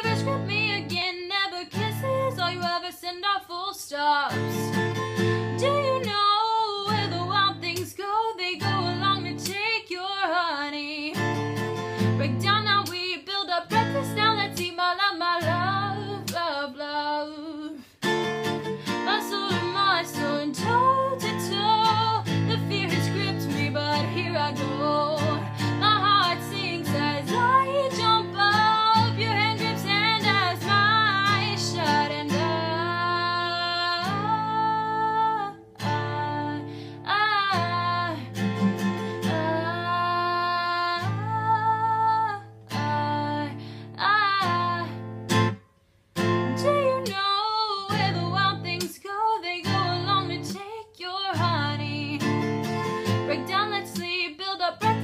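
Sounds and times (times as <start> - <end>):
woman singing: 0.0 - 45.1, 46.4 - 55.0
acoustic guitar: 0.0 - 55.0.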